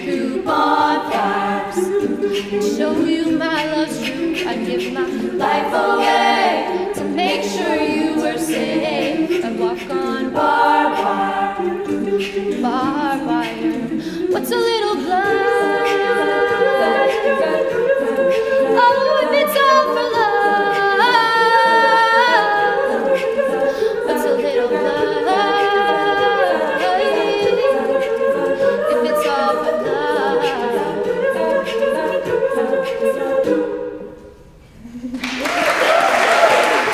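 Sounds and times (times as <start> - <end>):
women's choir singing chords: 0.0 - 36.9.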